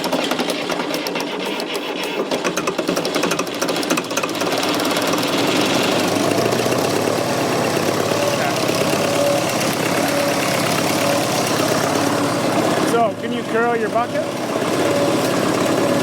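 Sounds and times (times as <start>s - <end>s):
diesel engine clattering: 0.0s - 16.0s.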